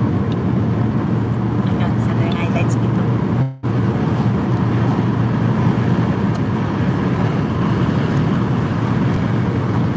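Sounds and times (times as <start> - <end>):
car road noise at highway speed: 0.0 - 9.9.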